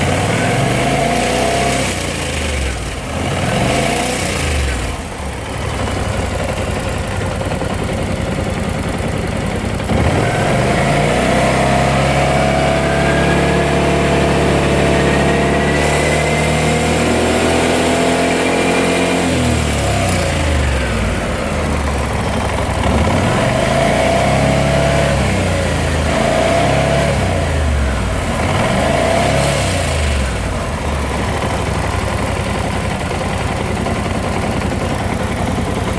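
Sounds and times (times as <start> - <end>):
scooter engine revving: 0.0 - 35.9.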